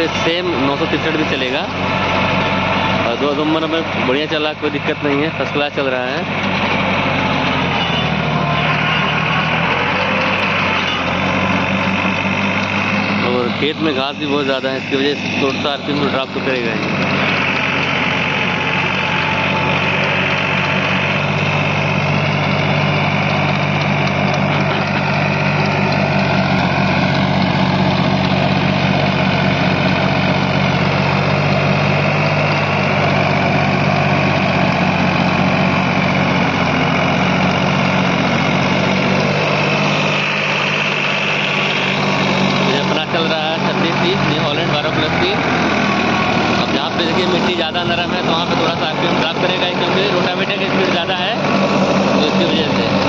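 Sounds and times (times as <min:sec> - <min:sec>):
rotavator cutting through grass: 0:00.0 - 0:53.0
tractor diesel engine under load: 0:00.0 - 0:53.0.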